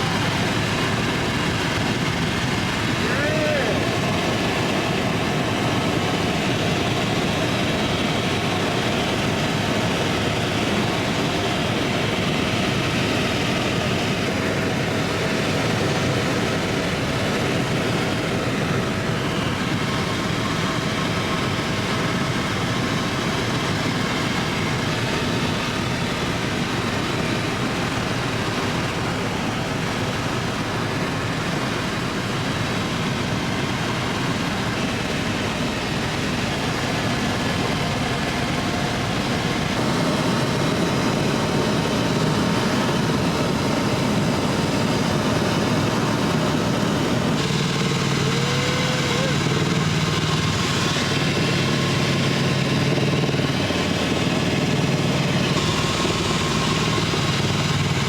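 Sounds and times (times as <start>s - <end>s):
helicopter engine and rotor noise: 0.0s - 58.0s.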